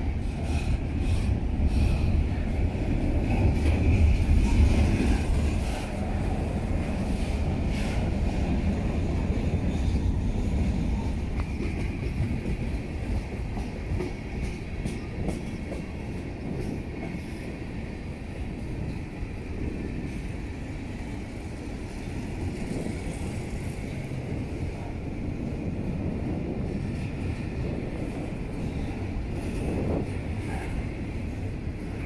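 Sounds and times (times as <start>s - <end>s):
train cars rumbling on rails: 0.0s - 32.0s.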